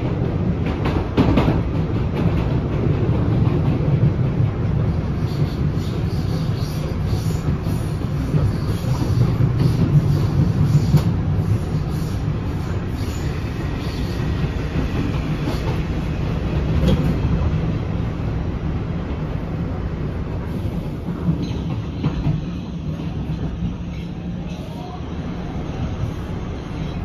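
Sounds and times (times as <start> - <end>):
train car rumble: 0.0 - 27.0.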